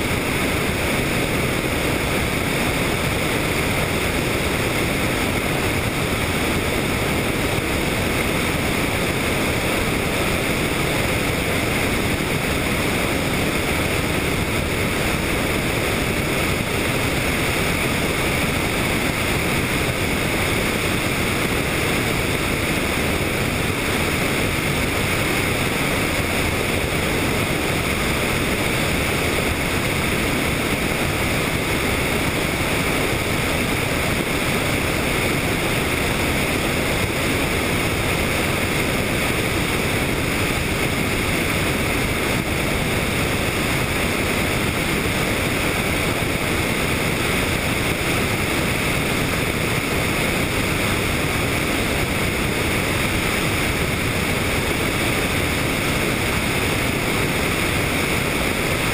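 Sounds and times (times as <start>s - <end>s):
helicopter in flight: 0.0s - 58.9s.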